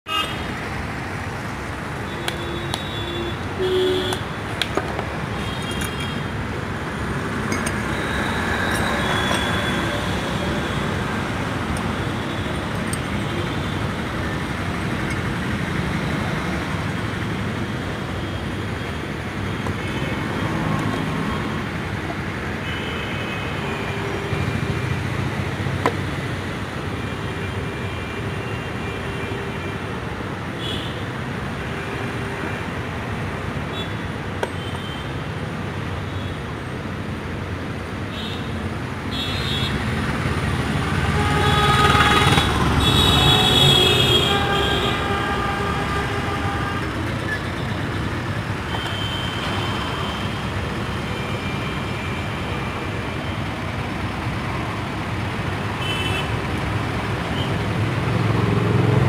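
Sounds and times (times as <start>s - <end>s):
city road traffic: 0.0s - 59.0s.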